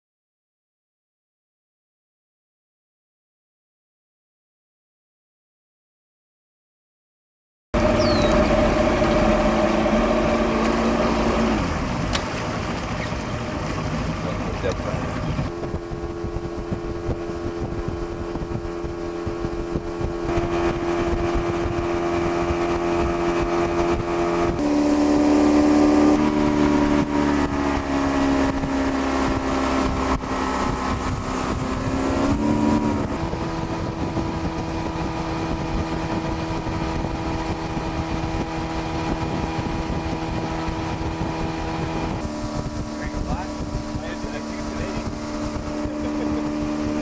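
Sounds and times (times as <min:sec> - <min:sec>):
outboard motor running: 0:07.8 - 0:47.0.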